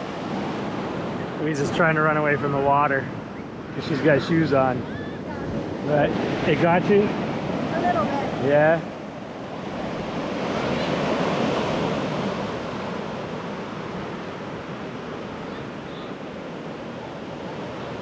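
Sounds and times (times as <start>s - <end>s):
ocean surf washing up beach: 0.0s - 18.0s.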